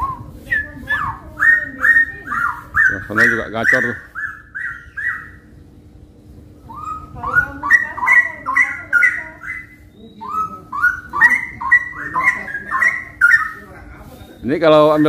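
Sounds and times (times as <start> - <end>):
birds singing whistled phrases: 0.0 - 15.0.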